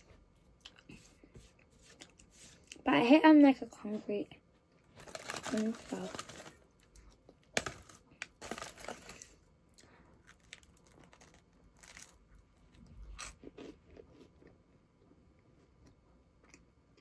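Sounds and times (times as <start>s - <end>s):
person chewing and crunching: 0.4s - 2.8s, 5.0s - 17.0s.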